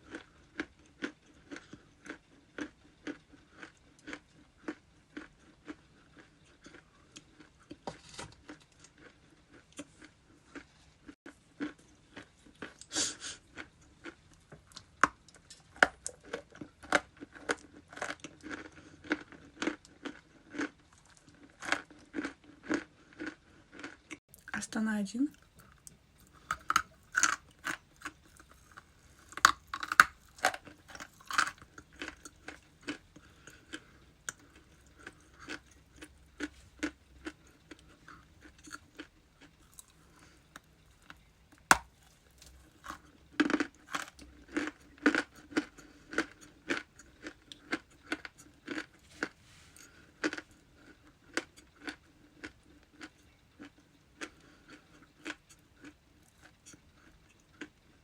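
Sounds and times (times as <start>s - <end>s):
ice being chewed: 0.0s - 24.6s, 25.3s - 58.0s.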